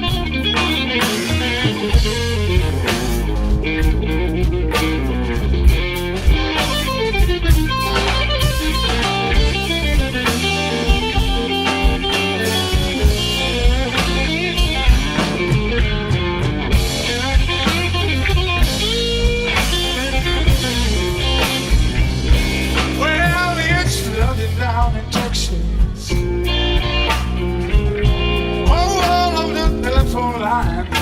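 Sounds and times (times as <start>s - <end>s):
bass guitar: 0.0s - 31.0s
drums: 0.0s - 31.0s
electric lead guitar: 0.0s - 31.0s.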